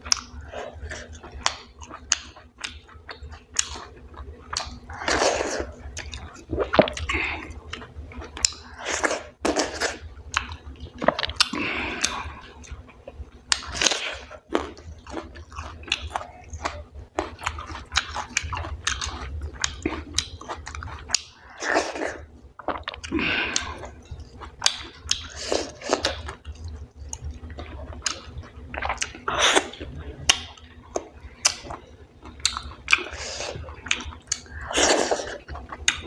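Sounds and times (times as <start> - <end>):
person chewing with wet smacks: 0.0 - 36.0.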